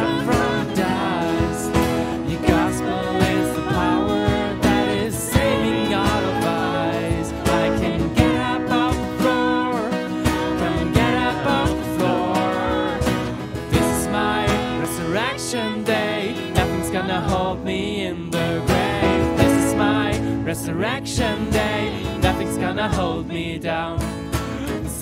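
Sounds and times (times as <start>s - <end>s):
keyboard: 0.0s - 25.0s
strummed acoustic guitar: 0.0s - 25.0s
woman singing: 0.0s - 25.0s.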